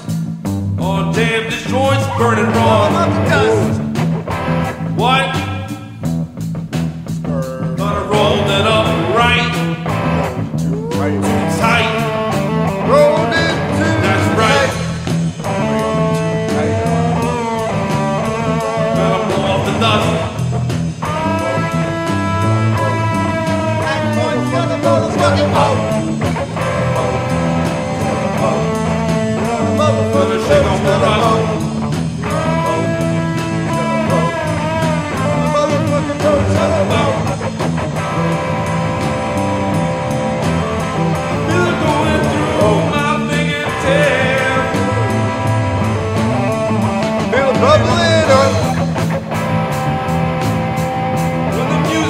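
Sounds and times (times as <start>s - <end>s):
rock song with electric guitar: 0.0s - 52.0s.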